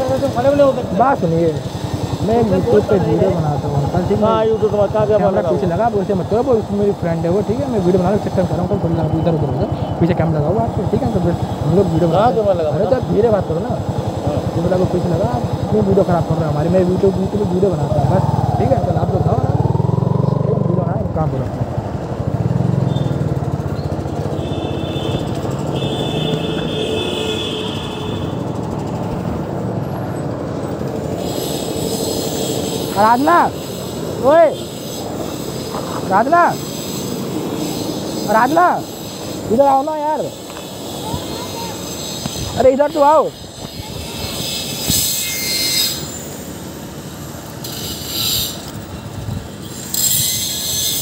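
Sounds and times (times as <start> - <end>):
street noise: 0.0 - 51.0.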